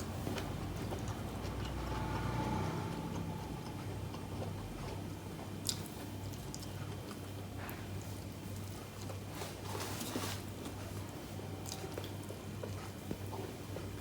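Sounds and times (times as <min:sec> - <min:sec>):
person chewing: 0:00.0 - 0:13.9
steady low hum: 0:00.0 - 0:14.0.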